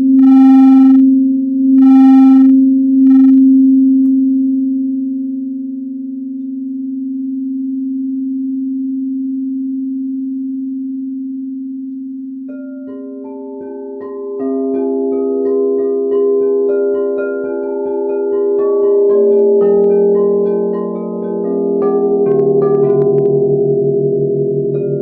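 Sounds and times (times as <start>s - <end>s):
singing bowl low tone: 0.0s - 25.0s.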